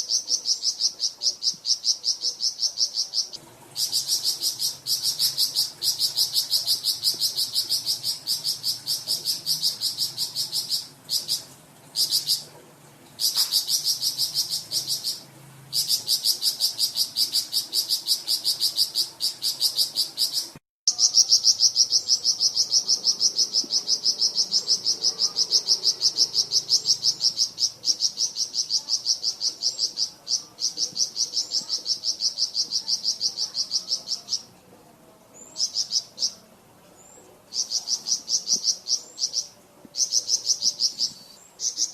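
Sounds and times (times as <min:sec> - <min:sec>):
songbird chattering trill: 0:00.0 - 0:12.5, 0:13.2 - 0:34.5, 0:35.4 - 0:36.5, 0:37.5 - 0:41.9.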